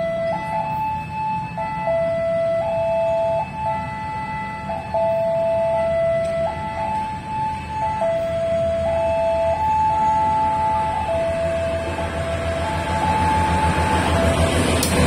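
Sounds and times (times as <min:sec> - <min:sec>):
level crossing alarm two tones: 0:00.0 - 0:14.6
diesel train engine rumble: 0:00.0 - 0:15.0.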